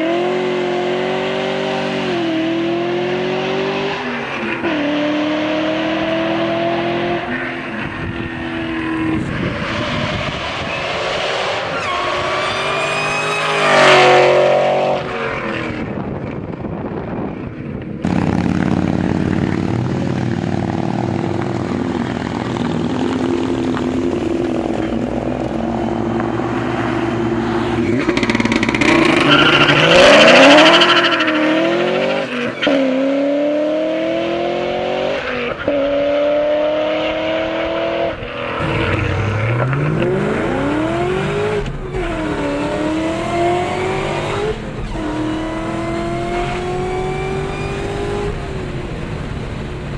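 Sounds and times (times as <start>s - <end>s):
car engine revving: 0.0s - 15.4s, 18.0s - 49.9s.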